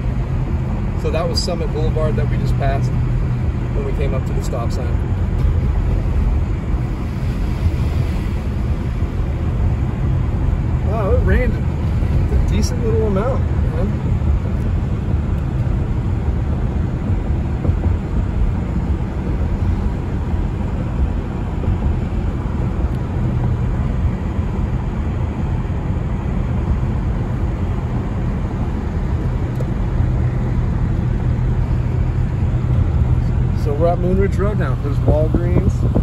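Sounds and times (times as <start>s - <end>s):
car engine hum: 0.0s - 36.0s.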